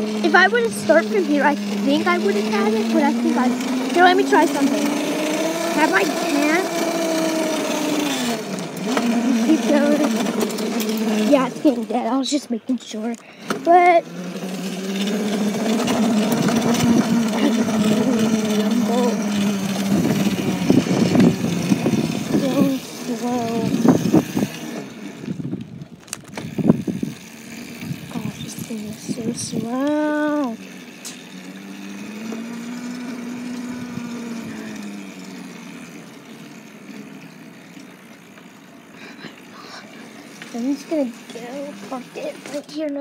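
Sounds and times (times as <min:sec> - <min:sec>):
electric motor humming: 0:00.0 - 0:43.0.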